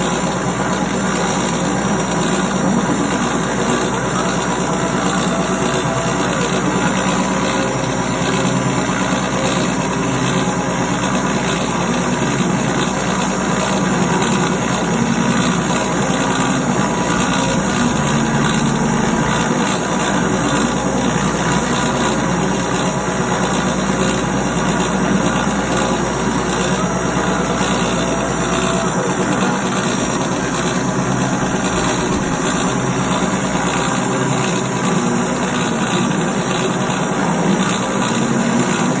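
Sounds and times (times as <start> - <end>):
lathe turning a part: 0.0 - 39.0.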